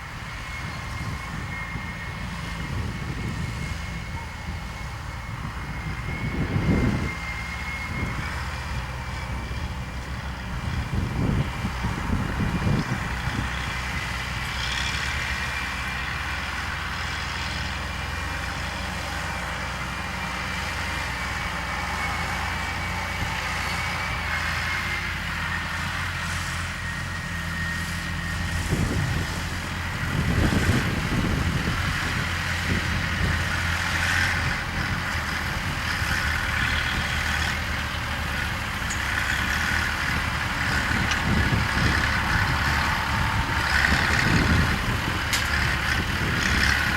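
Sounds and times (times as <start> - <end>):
harvester high whine: 0.0 - 46.9
tractor diesel engines droning: 0.0 - 46.9.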